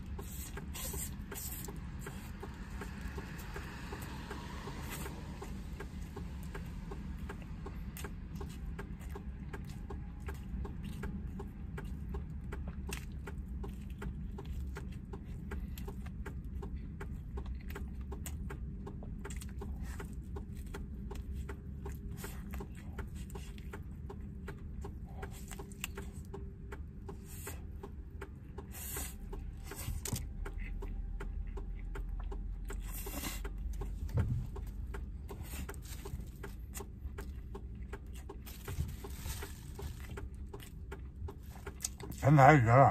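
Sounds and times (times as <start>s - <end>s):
man chewing and lip smacking: 0.0s - 42.9s
steady low hum: 0.0s - 42.9s.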